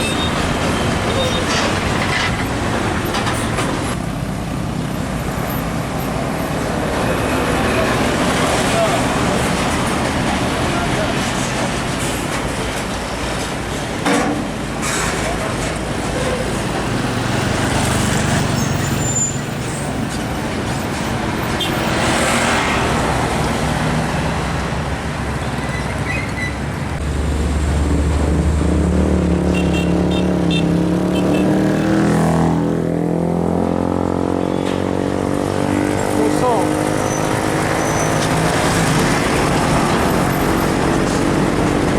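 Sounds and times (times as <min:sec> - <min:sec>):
diesel truck passing: 0:00.0 - 0:41.9
road traffic: 0:00.0 - 0:41.9.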